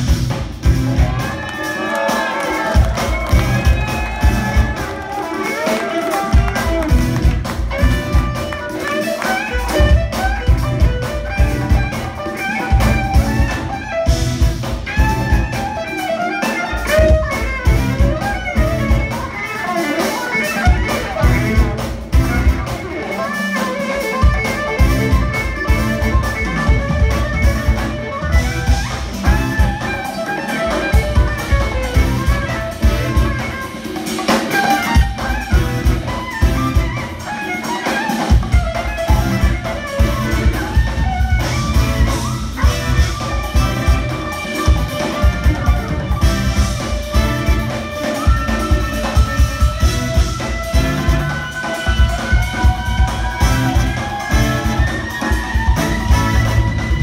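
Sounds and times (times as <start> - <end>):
jazz fusion band playing live: 0.0 - 57.0
lead melody bending in pitch: 2.6 - 57.0.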